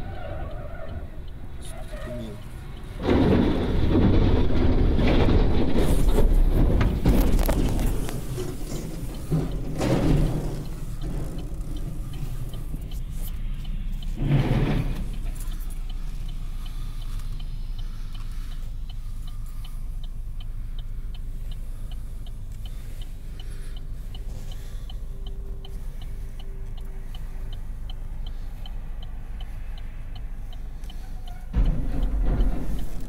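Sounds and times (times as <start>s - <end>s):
turn signal relay ticking: 0.0s - 4.7s, 6.0s - 33.0s
road noise inside car: 0.0s - 33.0s.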